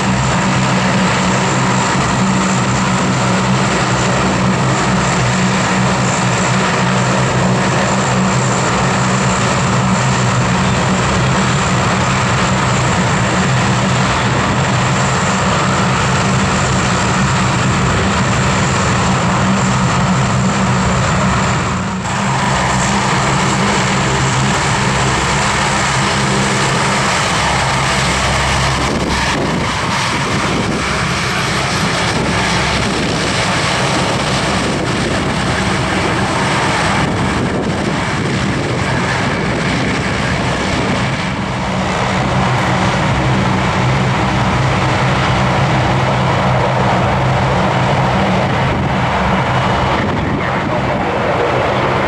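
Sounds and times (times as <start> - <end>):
high turbine whine: 0.0 - 52.0
propeller drone: 0.0 - 52.0.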